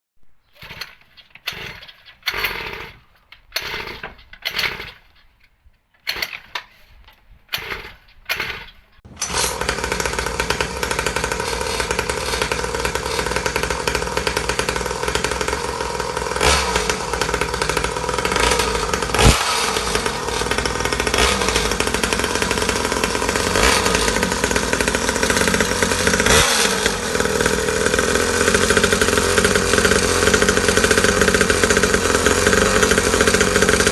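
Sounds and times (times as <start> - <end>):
small two-stroke engine starting: 0.4 - 5.2, 6.0 - 6.8, 7.5 - 33.9.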